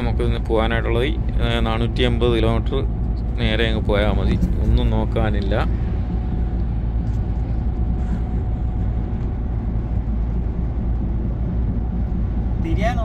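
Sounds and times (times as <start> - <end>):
faint steady whine: 0.0 - 13.0
truck engine and road noise: 0.0 - 13.0.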